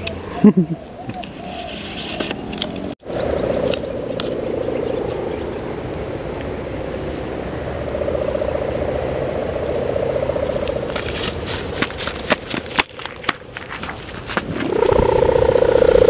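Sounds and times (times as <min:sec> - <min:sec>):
kite hummer buzzing in wind: 0:00.0 - 0:16.0.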